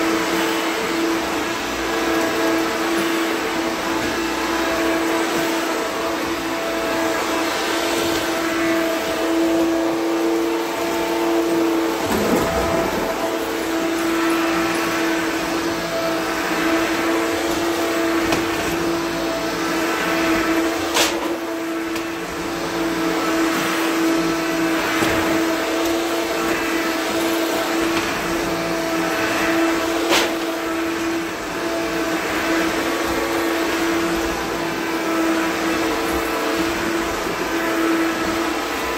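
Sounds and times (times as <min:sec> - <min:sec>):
vacuum cleaner motor hum: 0:00.0 - 0:38.9.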